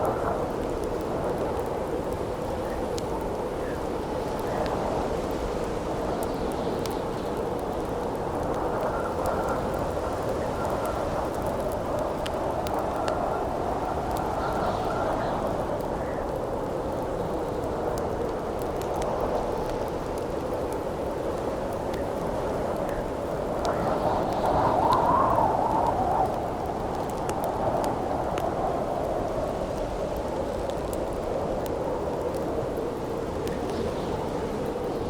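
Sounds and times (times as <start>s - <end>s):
campfire crackling and popping: 0.0s - 35.0s
wind howling in gusts: 0.0s - 35.0s.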